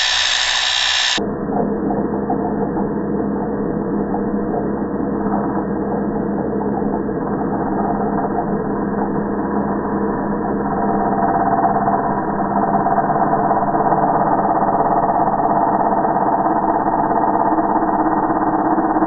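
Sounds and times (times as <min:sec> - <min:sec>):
slowed-down angle grinder drone: 0:00.0 - 0:19.0.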